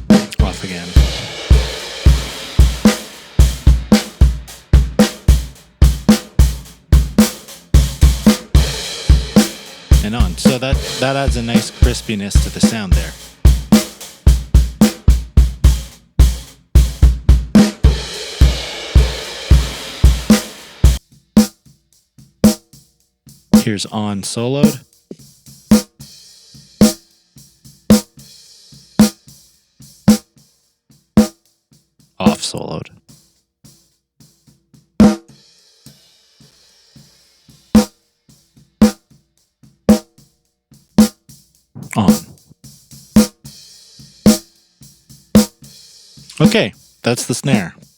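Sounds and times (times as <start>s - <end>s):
drum kit playing a beat: 0.0s - 47.9s.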